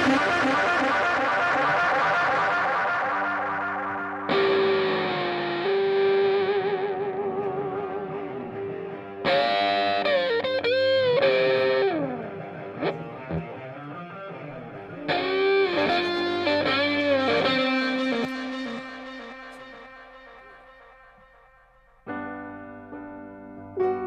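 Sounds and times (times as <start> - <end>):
distorted electric guitar phrases: 0.0 - 24.0.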